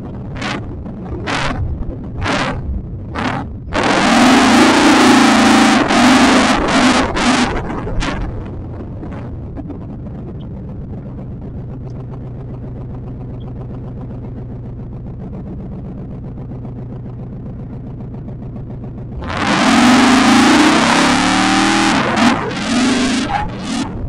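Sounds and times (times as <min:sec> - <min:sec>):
car engine rumbling and revving: 0:00.0 - 0:24.0.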